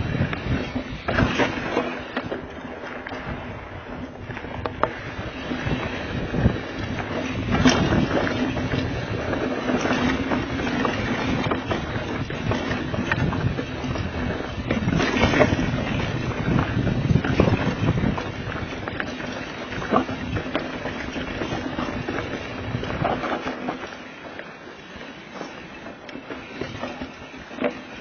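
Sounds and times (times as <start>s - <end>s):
wind rushing over microphone: 0.0s - 23.6s
bike knocks and rattles: 0.0s - 24.2s
tyres on dirt: 0.0s - 28.0s.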